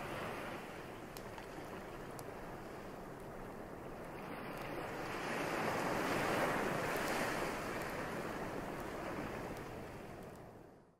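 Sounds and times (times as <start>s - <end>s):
surf washing up on beach: 0.0s - 10.2s.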